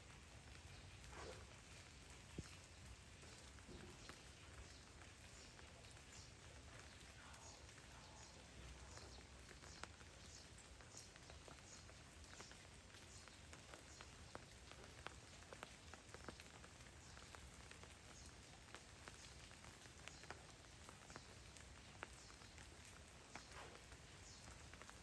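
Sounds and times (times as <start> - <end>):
low steady rain hiss: 0.0 - 25.0
raindrop ticks: 0.0 - 25.0.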